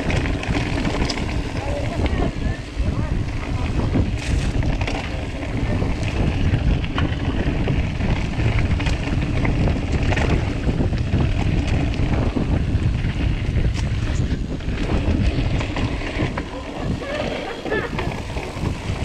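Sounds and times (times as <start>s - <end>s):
bike clicks and rattles: 0.0s - 19.0s
tyres rolling on dirt trail: 0.0s - 19.0s
wind buffeting microphone: 0.0s - 19.0s.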